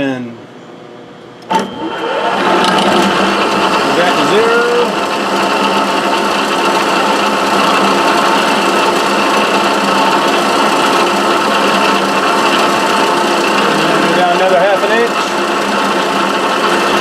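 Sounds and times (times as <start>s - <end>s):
milling machine cutting plastic: 1.5s - 17.0s.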